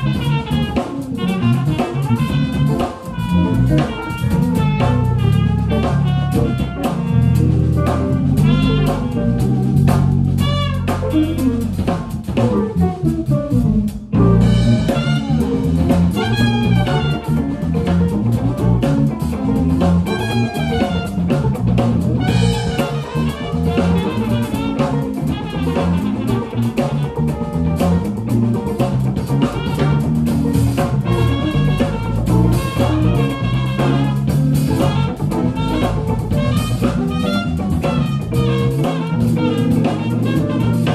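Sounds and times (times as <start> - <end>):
bending lead guitar lines: 0.0 - 40.9
drum kit: 0.0 - 40.9
walking bass line: 0.0 - 40.9.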